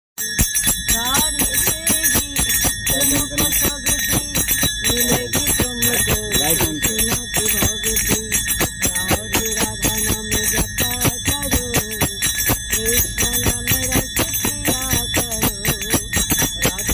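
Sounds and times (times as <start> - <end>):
small hand cymbals struck: 0.2 - 16.9
woman singing devotional song: 0.2 - 16.9.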